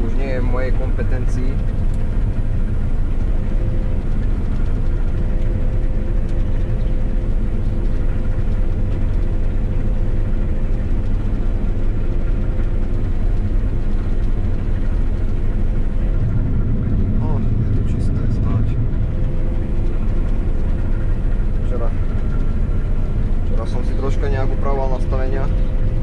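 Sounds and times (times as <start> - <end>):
combine harvester engine drone: 0.0 - 26.0
machinery whine: 0.0 - 26.0.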